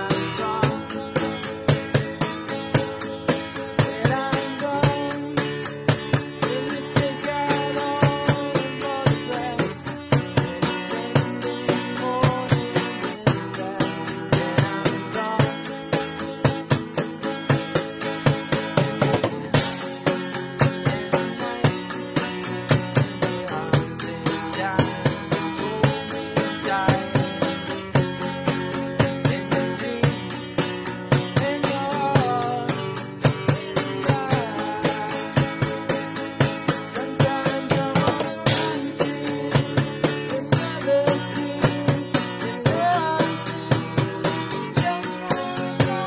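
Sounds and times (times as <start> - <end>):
acoustic guitar strumming: 0.0 - 46.0
boy singing: 0.0 - 46.0
bucket drums and cymbal: 0.0 - 46.0.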